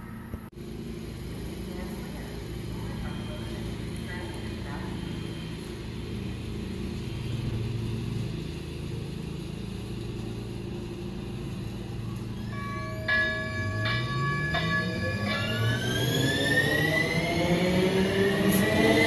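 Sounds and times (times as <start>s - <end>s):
light rail train humming: 0.0s - 19.0s
train warning bell ringing: 1.5s - 8.4s, 10.2s - 19.0s.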